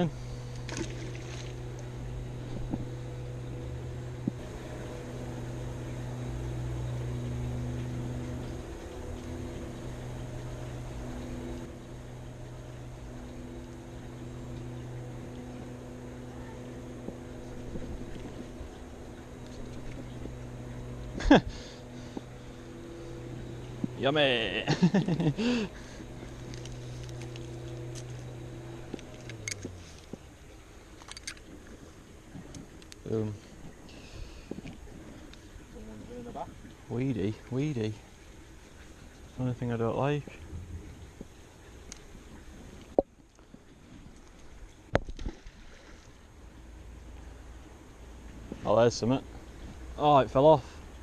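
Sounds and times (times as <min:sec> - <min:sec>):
low engine-like drone: 0:00.0 - 0:51.0.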